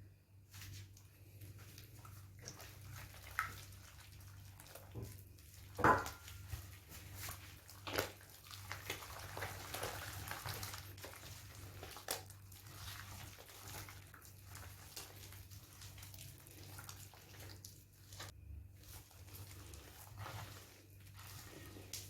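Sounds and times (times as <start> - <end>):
wet squelching of mixing: 0.5 - 22.0.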